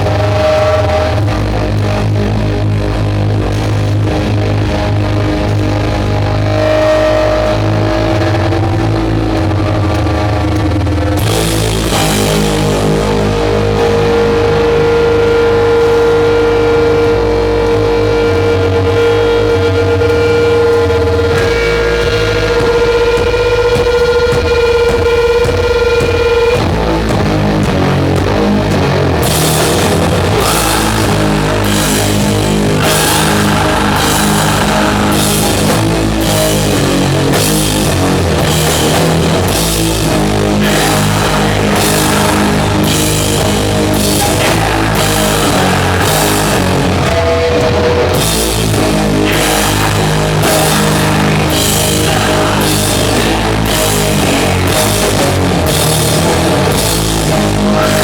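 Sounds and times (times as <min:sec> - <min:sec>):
heavy metal band playing: 0:00.0 - 0:58.0.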